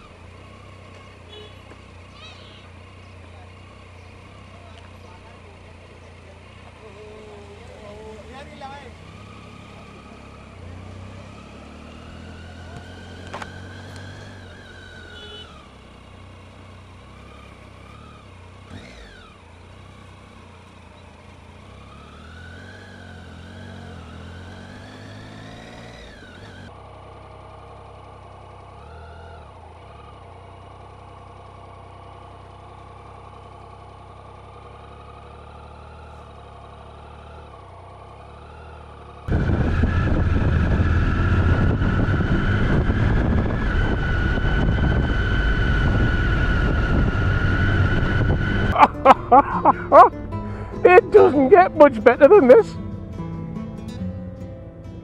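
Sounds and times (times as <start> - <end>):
motorcycle engine revving: 0.0 - 54.1.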